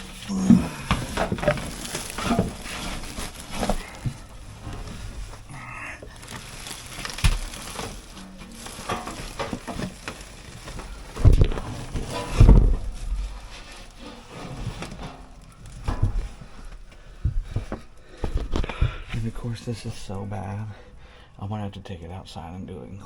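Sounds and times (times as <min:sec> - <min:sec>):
metal scraping and rattling: 0:00.0 - 0:18.5
heavy thumps: 0:00.0 - 0:21.2.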